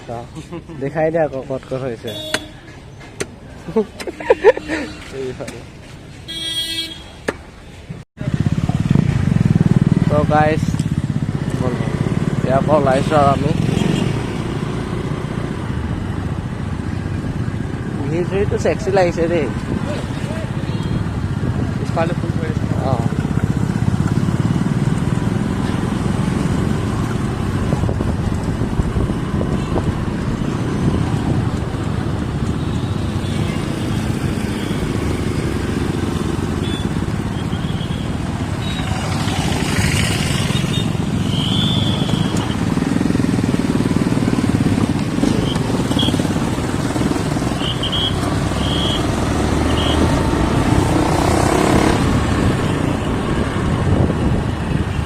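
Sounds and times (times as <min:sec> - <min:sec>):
motorcycle engine rumble: 0:00.0 - 0:18.2, 0:19.3 - 0:55.0.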